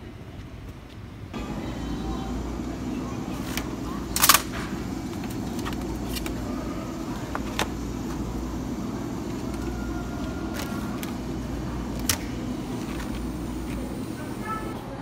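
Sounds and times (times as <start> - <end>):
steady low hum: 1.2 - 14.9.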